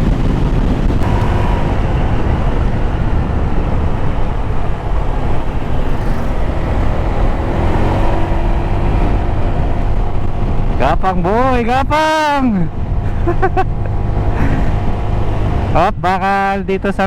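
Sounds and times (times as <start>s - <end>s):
motorcycle engine running: 0.0s - 11.9s, 12.5s - 15.9s
wind and road noise: 0.0s - 17.0s.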